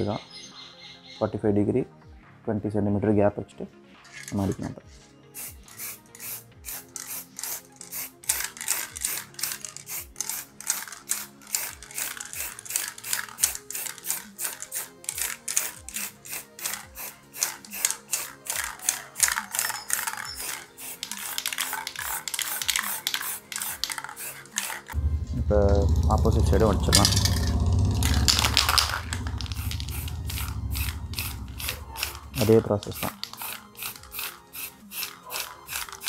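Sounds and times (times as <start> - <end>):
background music with fast beat: 4.1 - 36.0.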